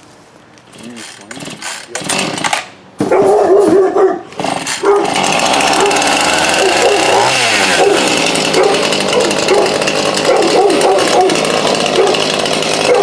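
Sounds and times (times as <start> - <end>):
chainsaw running: 0.7 - 2.8, 4.3 - 13.0.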